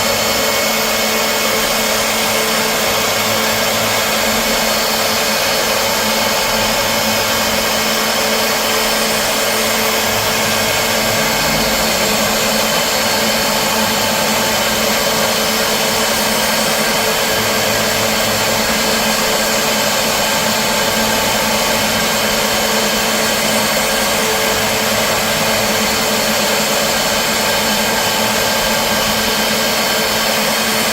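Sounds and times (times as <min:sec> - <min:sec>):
loud hiss: 0:00.0 - 0:30.2
milling machine whine: 0:00.0 - 0:30.9.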